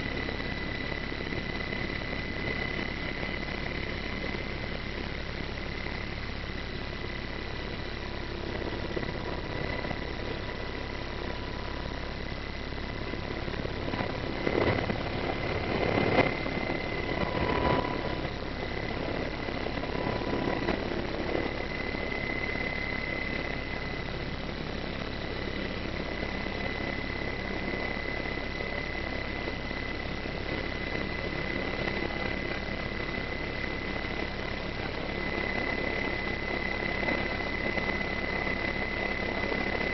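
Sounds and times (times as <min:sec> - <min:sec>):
helicopter engines and rotor: 0:00.0 - 0:39.9
high engine whine: 0:00.0 - 0:39.9.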